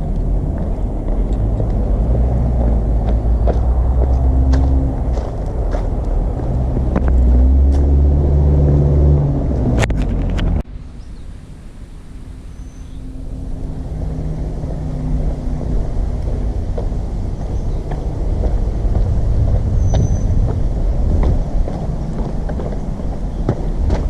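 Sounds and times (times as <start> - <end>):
vehicles passing: 0.0 - 24.0.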